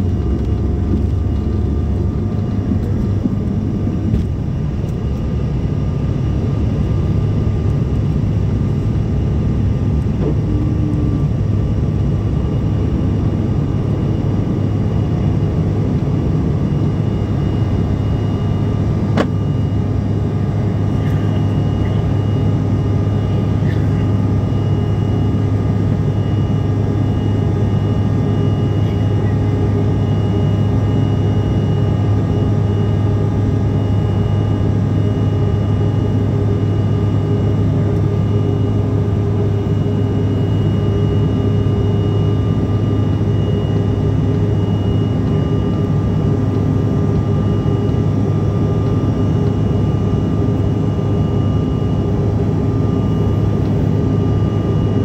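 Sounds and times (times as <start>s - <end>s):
jet cabin engine drone: 0.0s - 55.0s.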